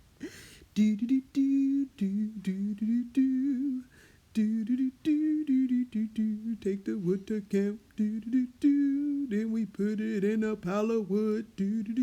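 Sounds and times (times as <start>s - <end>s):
person humming a tune: 0.8s - 12.0s.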